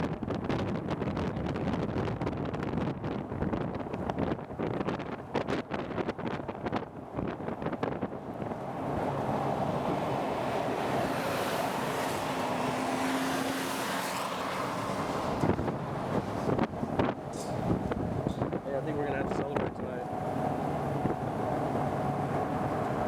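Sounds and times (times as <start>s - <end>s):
strong wind buffeting microphone: 0.0s - 13.0s, 14.4s - 23.0s.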